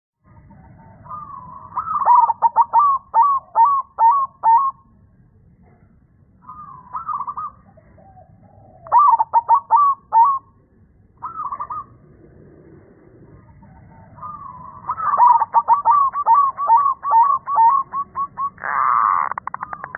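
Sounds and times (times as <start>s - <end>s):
dove cooing: 0.3s - 4.9s, 6.4s - 10.6s, 11.2s - 19.9s.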